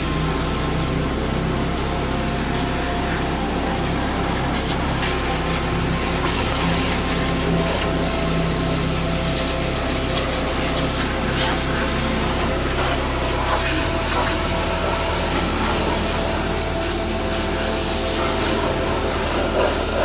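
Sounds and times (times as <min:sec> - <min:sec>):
pump motor humming: 0:00.0 - 0:20.0.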